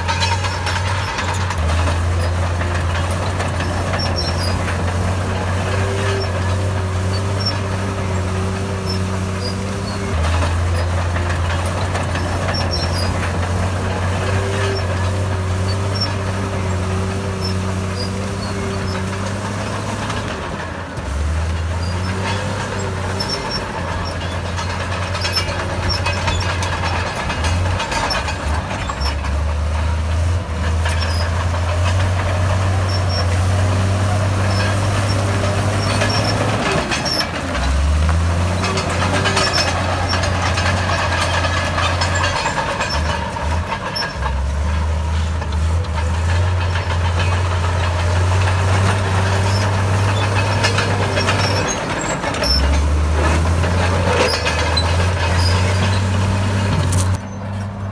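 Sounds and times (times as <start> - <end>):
heavy diesel machinery under load: 0.0 - 57.9.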